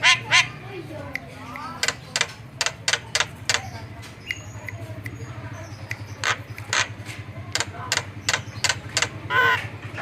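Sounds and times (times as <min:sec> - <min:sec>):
bird harsh clicking notes: 0:00.0 - 0:09.8.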